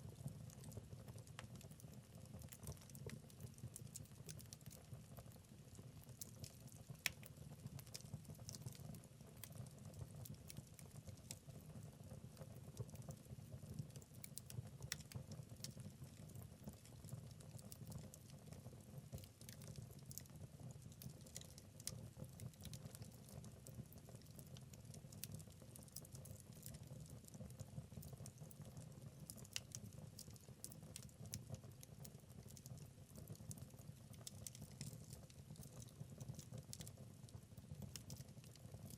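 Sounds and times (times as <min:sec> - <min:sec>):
low rumble of burning: 0:00.0 - 0:38.9
wood fire crackling and popping: 0:00.0 - 0:38.9.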